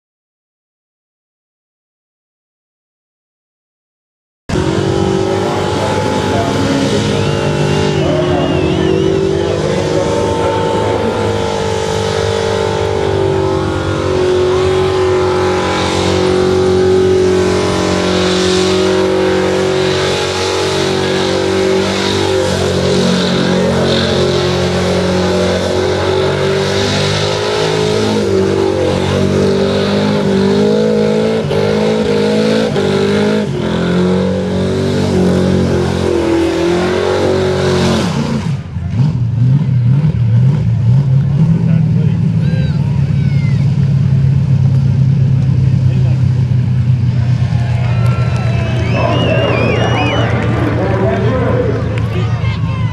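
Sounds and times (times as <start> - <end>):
car engine at high revs: 4.5 - 52.9.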